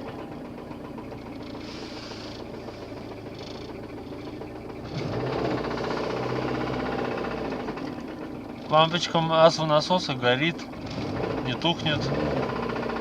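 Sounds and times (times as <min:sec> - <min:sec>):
car engine knocking: 0:00.0 - 0:13.0.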